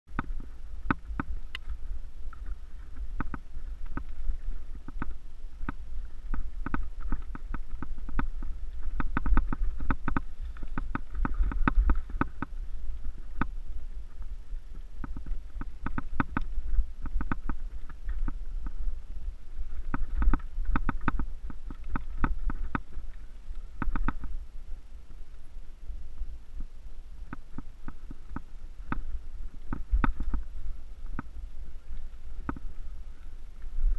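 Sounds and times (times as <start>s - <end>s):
wind rumble on microphone: 0.1s - 33.9s.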